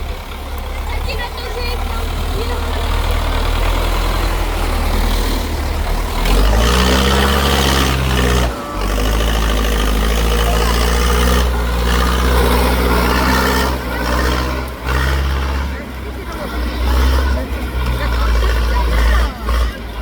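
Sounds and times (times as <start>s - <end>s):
tractor engine revving: 0.0s - 20.0s.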